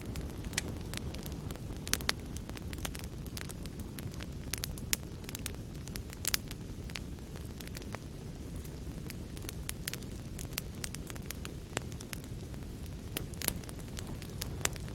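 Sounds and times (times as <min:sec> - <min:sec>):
fire crackling and popping: 0:00.0 - 0:14.9
low rumble of burning: 0:00.0 - 0:14.9.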